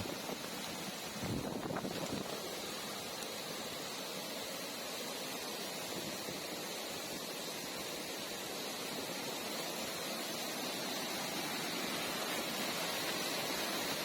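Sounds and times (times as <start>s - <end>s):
stream and waterfall rushing: 0.0s - 14.0s.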